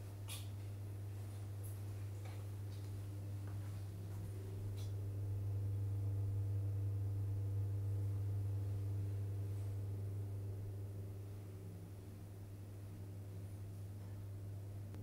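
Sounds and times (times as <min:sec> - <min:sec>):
low equipment hum: 0:00.0 - 0:15.0.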